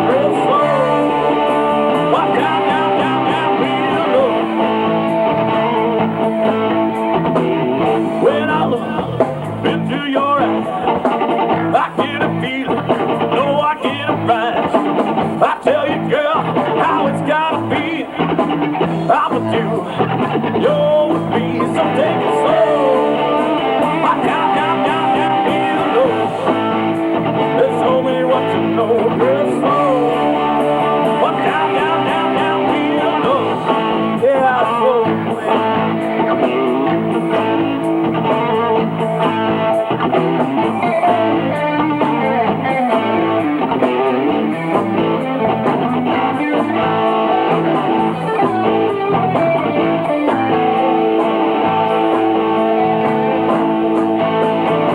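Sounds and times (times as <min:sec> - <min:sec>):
bass: 0:00.0 - 0:54.9
electric guitar bending notes: 0:00.0 - 0:54.9.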